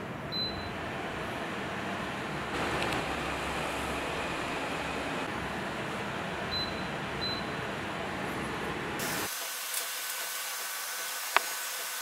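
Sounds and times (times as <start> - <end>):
air cooler fan hissing: 0.8 - 12.0.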